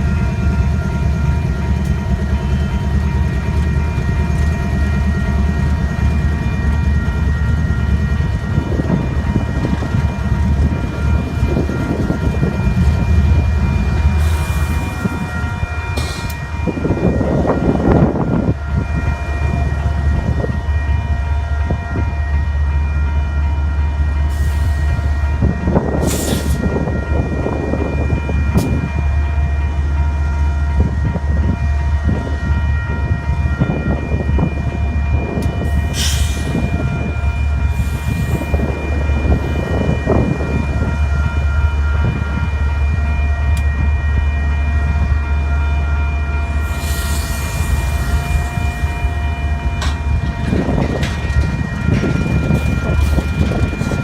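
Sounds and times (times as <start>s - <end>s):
diesel locomotive engine drone: 0.0s - 54.0s
train wheels rumbling: 0.0s - 54.0s.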